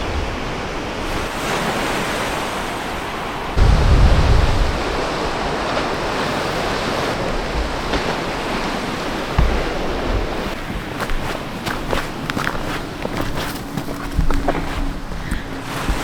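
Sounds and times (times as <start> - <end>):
sea surf against rocky shore: 0.0 - 16.0
wind buffeting microphone: 0.0 - 16.0.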